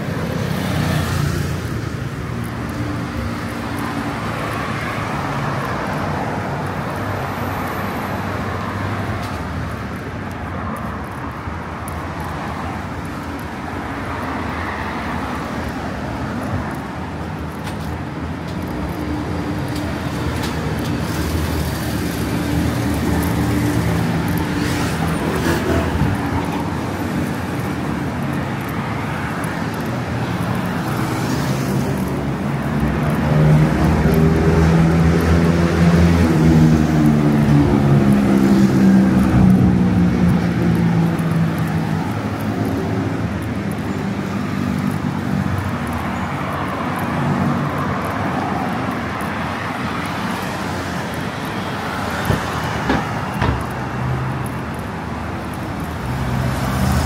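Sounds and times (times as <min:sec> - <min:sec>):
city road traffic: 0:00.0 - 0:57.0.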